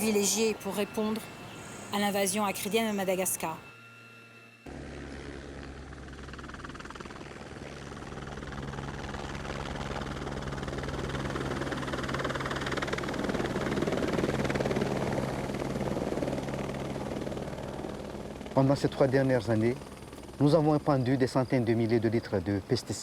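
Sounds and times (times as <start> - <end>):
aircraft engine droning: 0.0 - 23.0.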